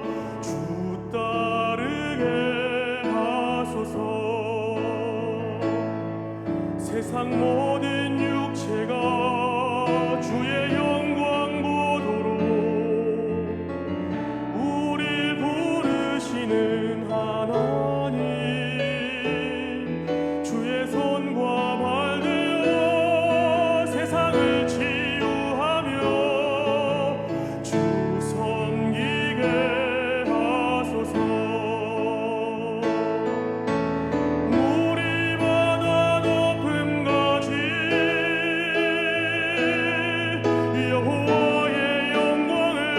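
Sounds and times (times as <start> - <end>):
piano accompaniment: 0.0 - 42.9
vibrato vocal melody: 0.0 - 42.9.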